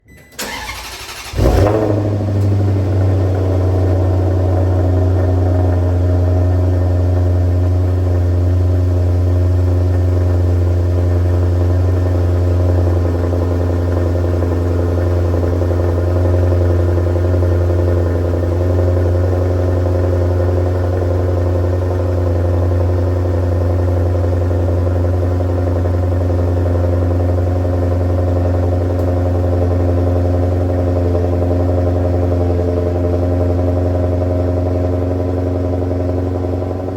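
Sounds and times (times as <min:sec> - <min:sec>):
car engine idling: 0:00.4 - 0:36.9.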